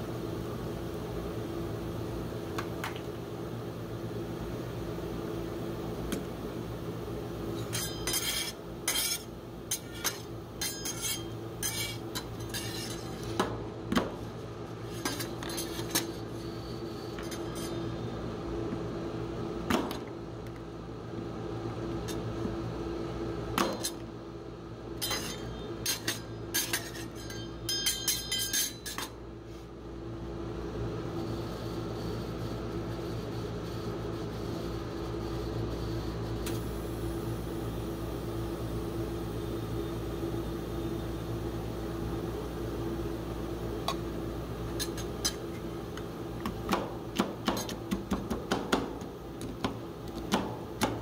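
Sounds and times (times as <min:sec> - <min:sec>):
ice cream machine hum: 0:00.0 - 0:51.0.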